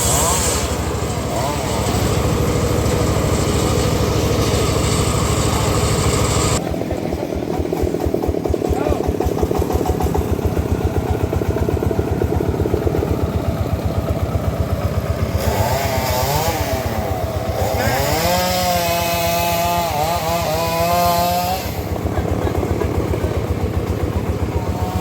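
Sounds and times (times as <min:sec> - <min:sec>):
saw blade whine cutting log: 0:00.0 - 0:25.0
sawmill engine thudding: 0:00.0 - 0:25.0.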